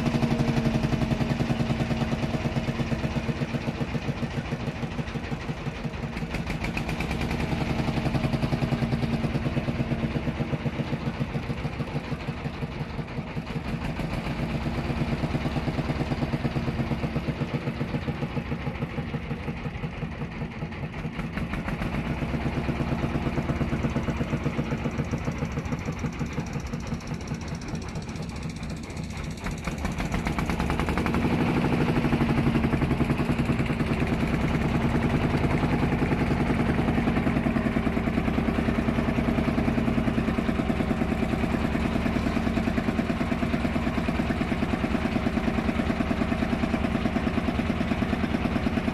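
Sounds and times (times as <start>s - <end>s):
diesel boat engine chugging: 0.0s - 48.9s.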